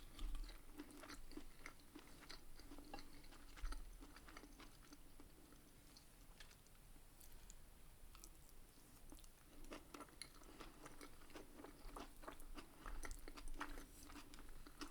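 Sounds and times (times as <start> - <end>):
mouth chewing crunches: 0.0 - 5.4, 6.3 - 14.9.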